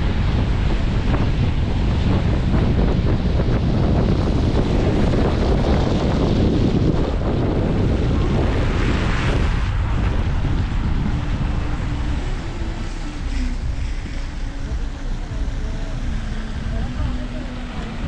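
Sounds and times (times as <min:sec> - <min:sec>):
vehicle driving rumble: 0:00.0 - 0:18.0
wind buffeting microphone: 0:00.0 - 0:18.0.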